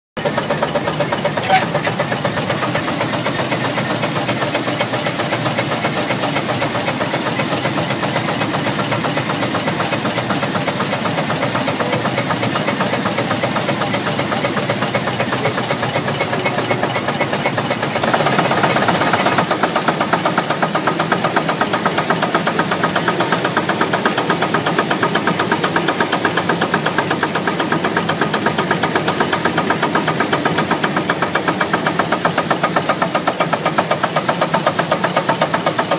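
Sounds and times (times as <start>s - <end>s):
steam traction engine running: 0.2s - 35.9s
threshing machine rhythmic beat: 0.2s - 35.9s.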